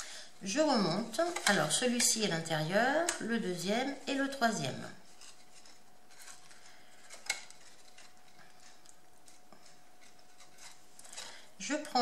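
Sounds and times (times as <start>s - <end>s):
cardstock rustling: 0.9s - 11.4s.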